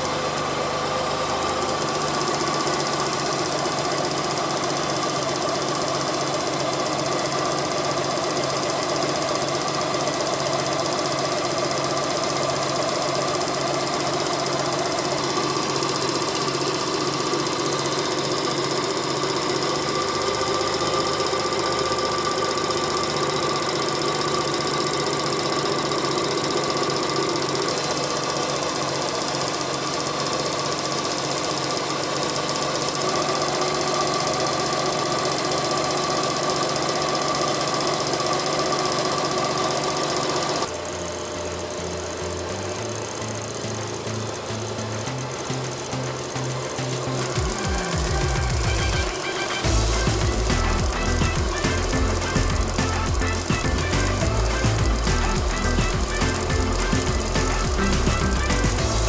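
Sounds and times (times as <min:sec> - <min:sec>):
small car engine running: 0:00.0 - 0:59.0.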